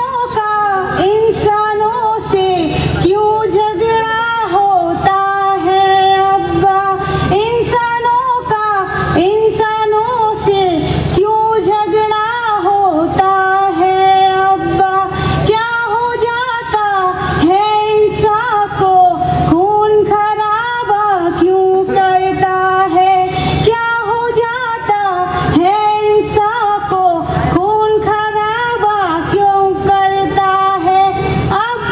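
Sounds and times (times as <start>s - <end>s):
girl singing into a microphone: 0.0s - 31.9s.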